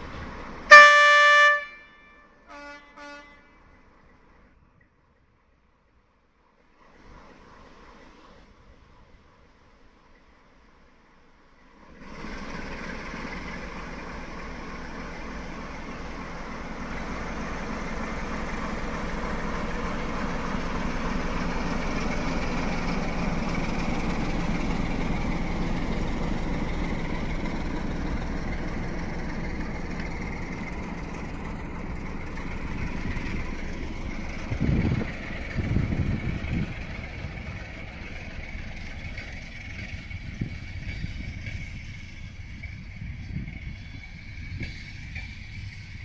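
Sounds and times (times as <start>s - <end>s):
train engine running: 0.0s - 46.0s.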